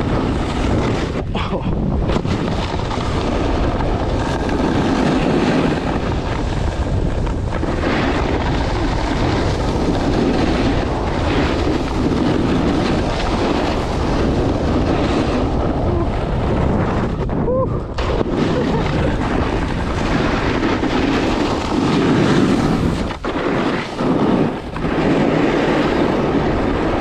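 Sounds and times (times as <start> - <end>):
snowboard scraping on snow: 0.0 - 27.0
wind rumbling on microphone: 0.0 - 27.0.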